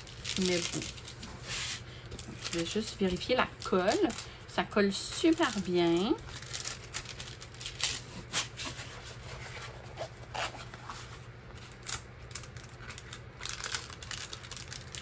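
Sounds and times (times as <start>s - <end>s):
plastic film crinkling and peeling: 0.0s - 4.3s, 4.9s - 15.0s.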